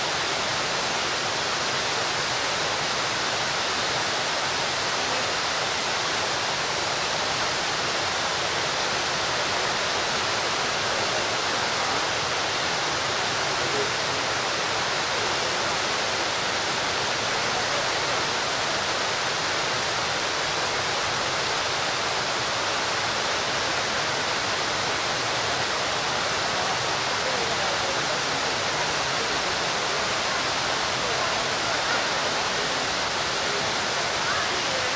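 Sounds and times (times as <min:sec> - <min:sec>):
fountain water splashing: 0:00.0 - 0:34.9.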